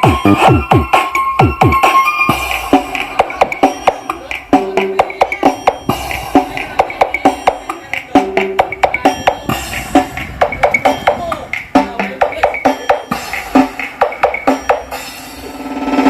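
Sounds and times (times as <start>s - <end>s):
music through loudspeaker: 0.0s - 16.0s.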